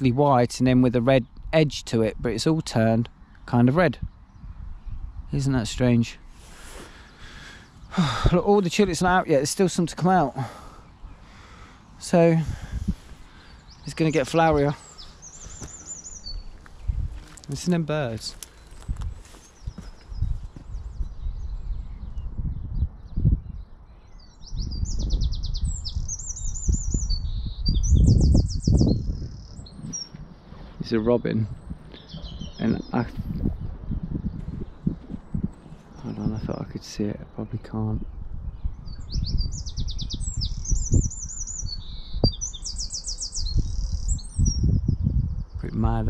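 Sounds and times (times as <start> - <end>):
robin singing trilled notes: 7.0 - 46.0.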